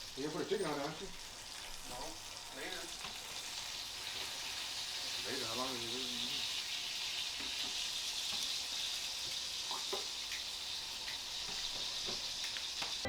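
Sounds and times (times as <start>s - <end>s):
chicken sizzling in a hot pan: 0.0s - 13.0s.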